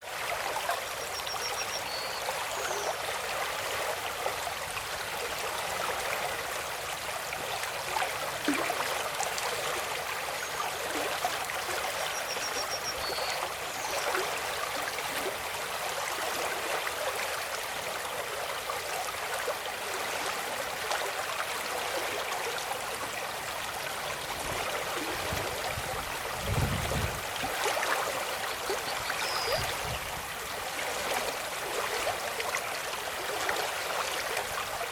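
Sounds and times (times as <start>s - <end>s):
stream of water trickling: 0.0s - 34.9s.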